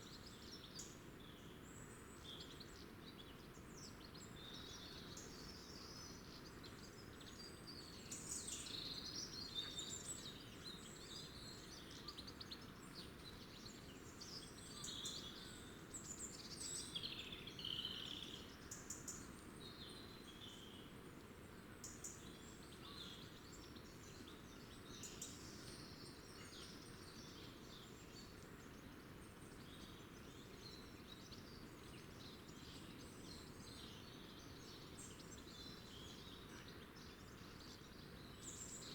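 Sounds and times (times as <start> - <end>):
faint background noise: 0.0 - 38.9.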